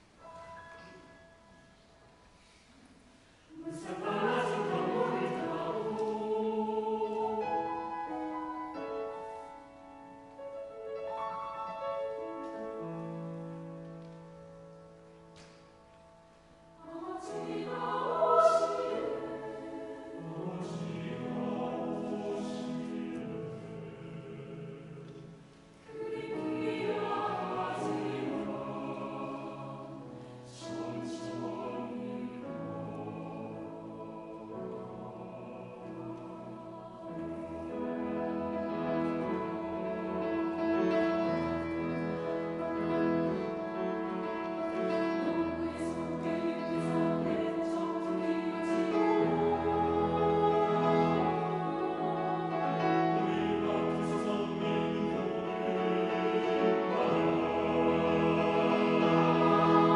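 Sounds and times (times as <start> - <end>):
mixed choir singing: 3.5 - 9.6, 16.8 - 59.9.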